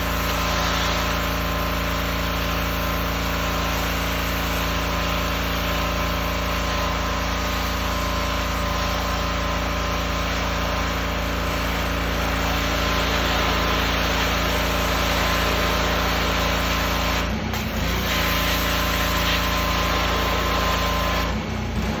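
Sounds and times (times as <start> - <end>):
pressure washer engine running: 0.0 - 22.0.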